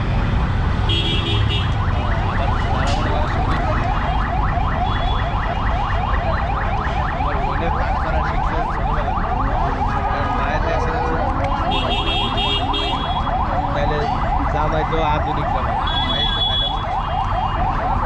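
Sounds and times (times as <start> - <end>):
low rumble of street noise: 0.0 - 18.0.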